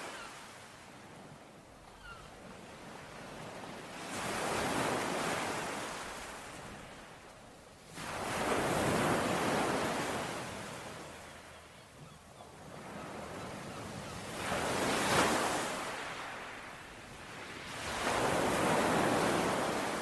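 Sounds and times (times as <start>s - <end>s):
ocean waves breaking on shore: 0.0s - 20.0s.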